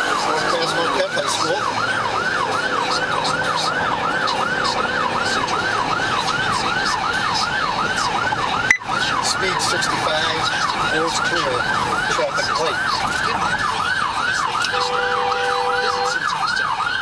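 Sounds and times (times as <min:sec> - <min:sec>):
police siren yelping: 0:00.0 - 0:17.0
road noise: 0:00.0 - 0:17.0.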